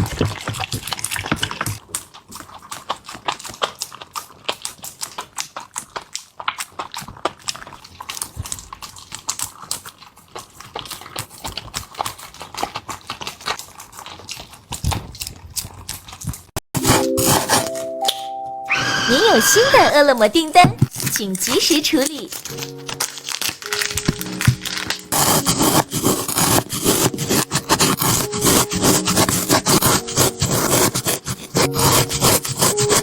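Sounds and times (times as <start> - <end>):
dog chewing and lapping food: 0.0 - 17.5, 20.2 - 33.0.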